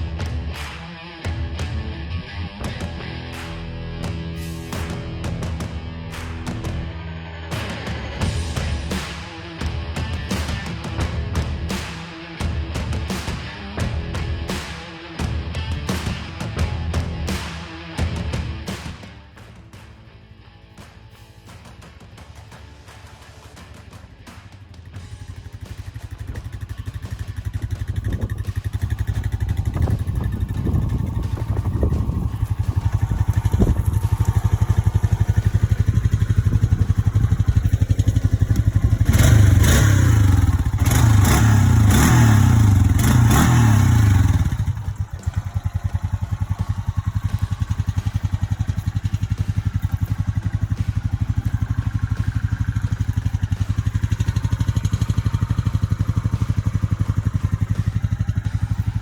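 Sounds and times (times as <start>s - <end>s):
atv engine revving: 0.0s - 19.8s, 24.3s - 59.0s.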